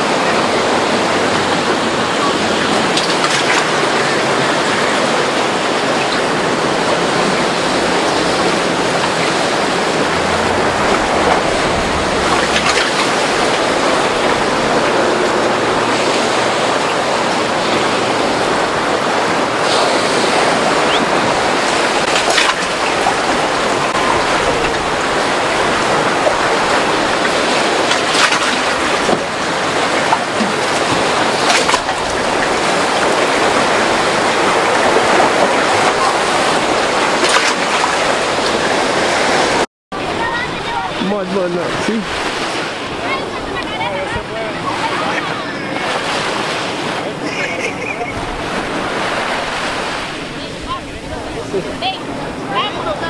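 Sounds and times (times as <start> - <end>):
breaking waves rushing: 0.0 - 53.0.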